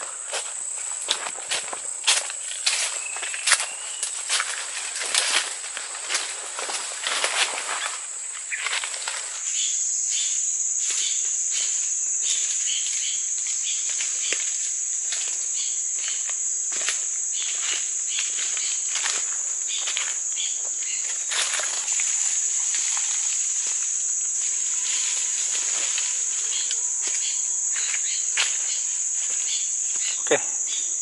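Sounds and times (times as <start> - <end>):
footsteps crunching through dry leaves: 0.0 - 30.2
high-pitched insect drone: 0.0 - 31.0.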